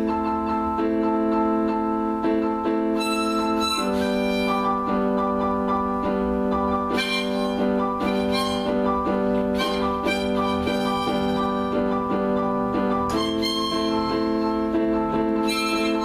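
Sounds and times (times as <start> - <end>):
electronic keyboard piano chords: 0.0 - 16.0.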